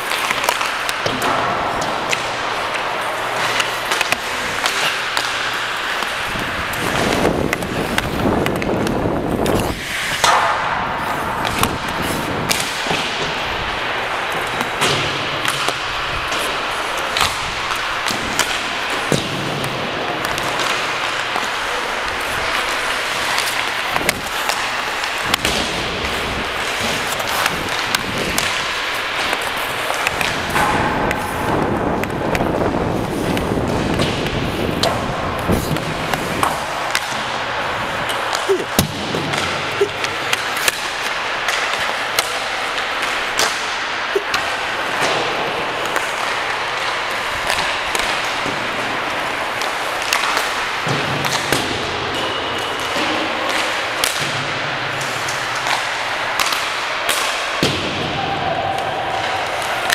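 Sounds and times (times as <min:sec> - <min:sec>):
ice rink din: 0:00.0 - 0:59.9
pucks and sticks hitting boards: 0:00.0 - 0:59.9.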